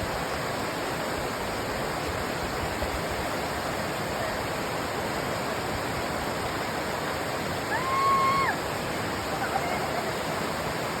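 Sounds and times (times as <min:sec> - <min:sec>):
fast-flowing river rushing: 0:00.0 - 0:11.0.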